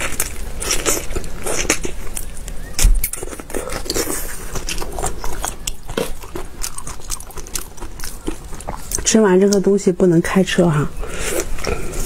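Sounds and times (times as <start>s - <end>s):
shrimp chewing and shell cracking: 0.0s - 9.8s, 11.2s - 12.0s.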